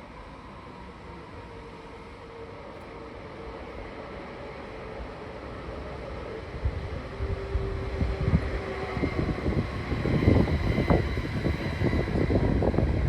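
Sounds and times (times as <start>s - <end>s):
rail vehicle rumbling: 0.0s - 13.0s.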